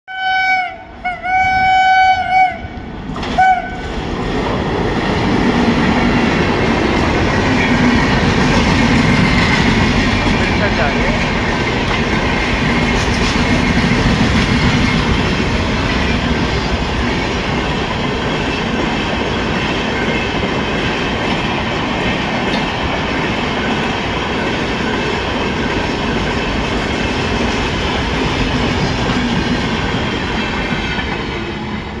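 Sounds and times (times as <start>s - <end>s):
train rumbling past: 0.1s - 32.0s.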